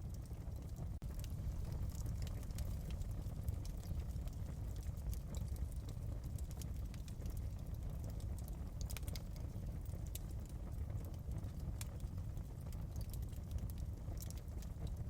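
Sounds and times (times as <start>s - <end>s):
fire pops and snaps: 0.0s - 15.0s
low rumble of burning fire: 0.0s - 15.0s.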